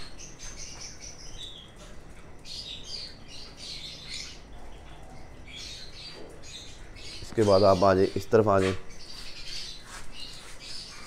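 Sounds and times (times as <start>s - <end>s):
small birds chirping and twittering: 0.0s - 11.0s.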